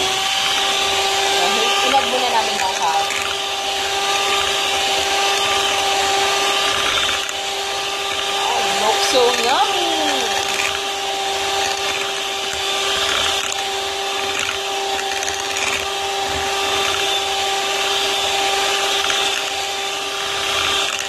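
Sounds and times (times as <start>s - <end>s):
electric hand mixer whining: 0.0s - 21.0s.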